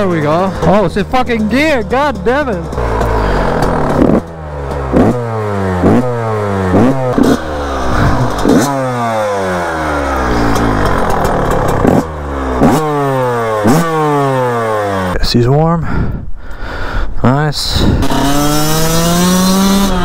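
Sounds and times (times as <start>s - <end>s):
motocross engine revving: 0.0s - 15.6s, 17.7s - 20.0s.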